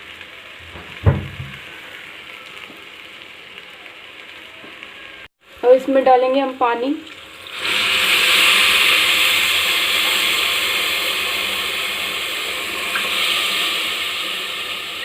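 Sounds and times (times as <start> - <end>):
water sizzling in hot pan: 0.0 - 15.0.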